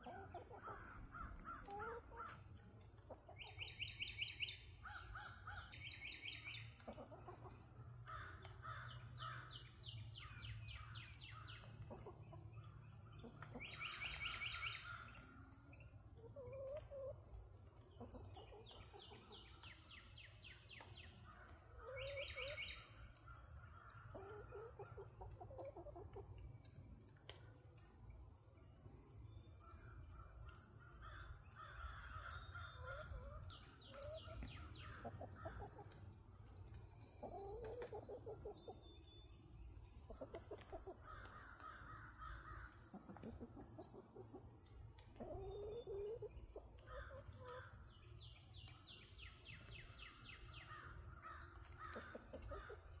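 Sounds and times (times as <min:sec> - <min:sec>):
birds calling in pulsed notes: 0:00.0 - 0:53.0.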